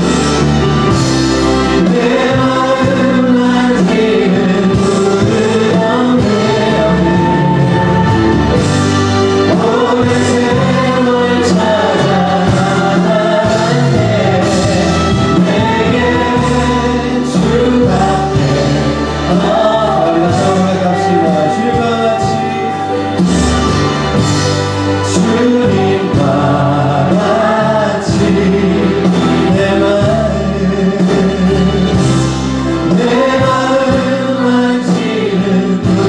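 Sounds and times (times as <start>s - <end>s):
band accompaniment: 0.0s - 36.0s
group singing gospel song: 0.0s - 36.0s.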